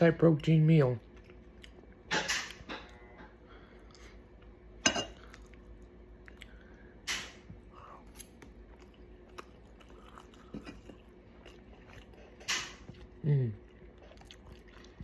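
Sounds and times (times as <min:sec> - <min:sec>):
person chewing: 0:01.0 - 0:04.6, 0:05.2 - 0:15.0.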